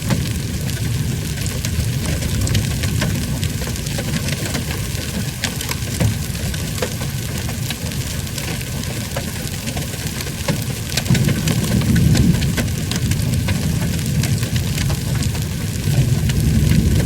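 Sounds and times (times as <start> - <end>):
hailstones ticking: 0.0 - 17.0
heavy rain hissing: 0.0 - 17.0.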